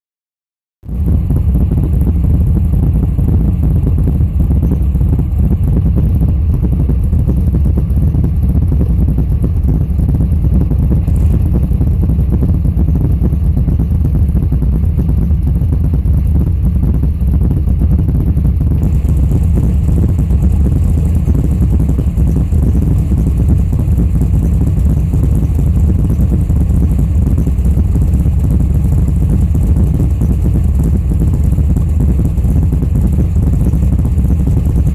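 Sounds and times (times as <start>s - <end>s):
vehicle exhaust idling: 0.8s - 34.9s.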